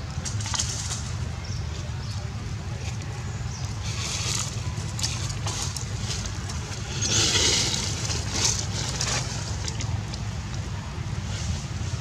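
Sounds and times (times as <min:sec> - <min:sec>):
low wind rumble on microphone: 0:00.0 - 0:12.0.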